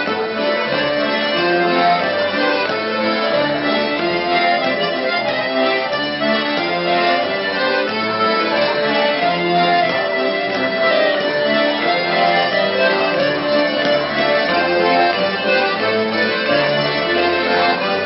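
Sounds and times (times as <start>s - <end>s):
button accordions playing dance tune: 0.0s - 18.0s.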